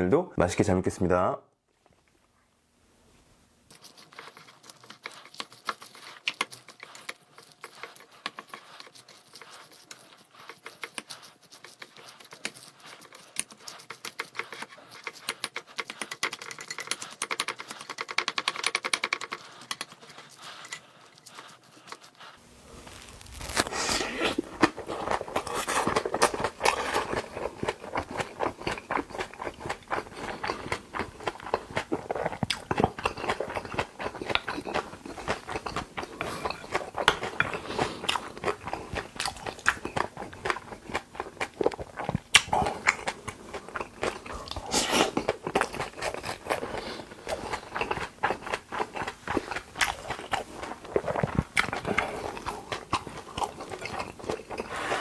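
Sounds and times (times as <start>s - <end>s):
person chewing with mouth clicks: 3.7s - 55.0s.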